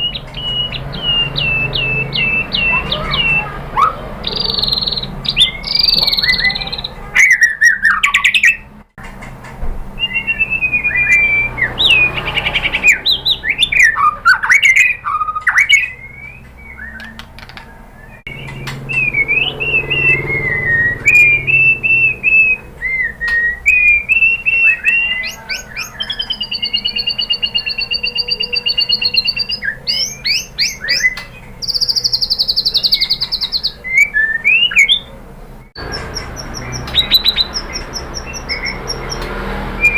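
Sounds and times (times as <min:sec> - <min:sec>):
songbird singing whistled phrases: 0:00.0 - 0:08.7, 0:10.0 - 0:39.9.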